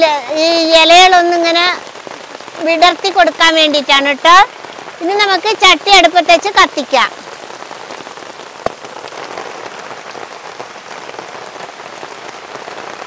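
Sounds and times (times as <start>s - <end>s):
rain on leaves and ground: 0.0s - 13.0s.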